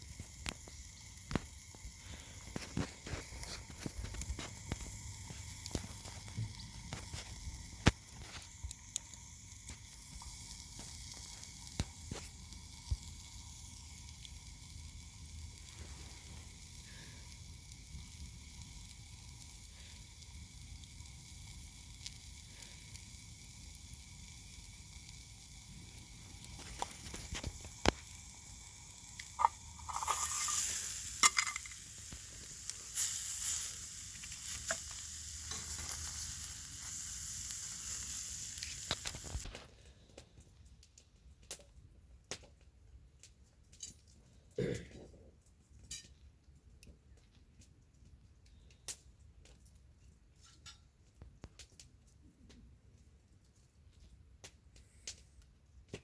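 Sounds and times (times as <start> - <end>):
fire popping and crackling: 0.0 - 44.3, 45.6 - 56.0
campfire sizzling hiss: 0.0 - 56.0.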